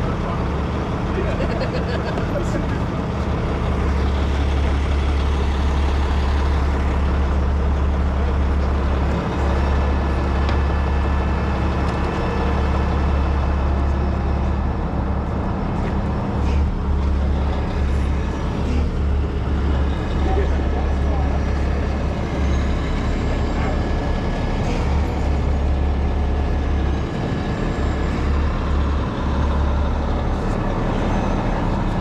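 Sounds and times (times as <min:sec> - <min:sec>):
diesel truck engine running: 0:00.0 - 0:32.0.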